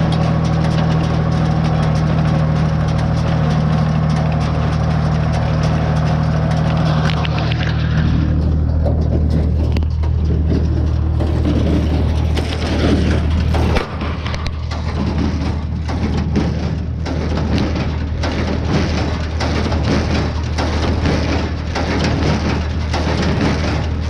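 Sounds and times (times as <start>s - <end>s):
hay baler crunching: 0.0s - 24.0s
tractor engine running: 0.0s - 24.0s.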